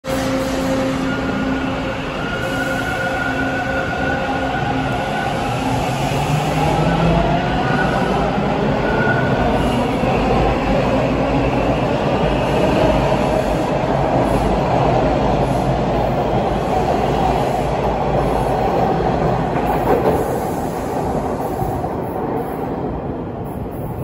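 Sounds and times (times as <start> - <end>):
subway train wheels rumbling on rail: 0.0 - 24.0.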